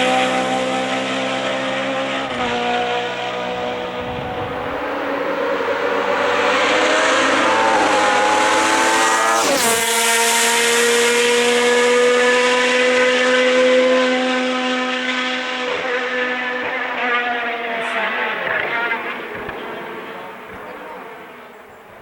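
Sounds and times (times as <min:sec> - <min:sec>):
racing car engine revving: 0:00.0 - 0:21.5.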